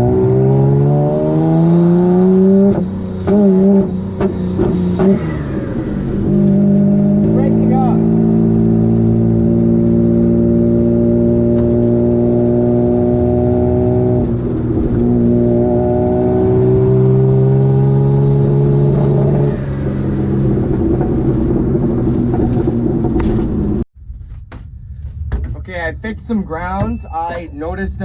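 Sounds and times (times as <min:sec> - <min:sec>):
car engine at high revs: 0:00.0 - 0:23.8.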